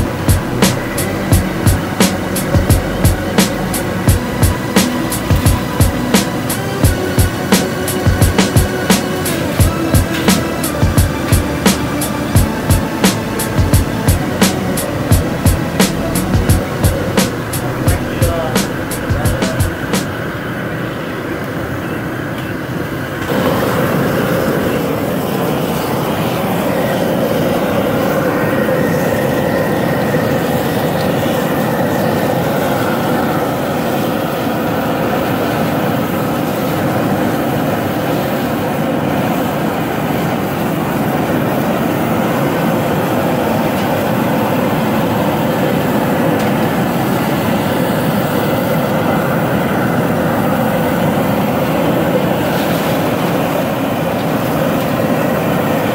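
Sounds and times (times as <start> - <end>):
propane burner roaring: 0.0 - 55.9.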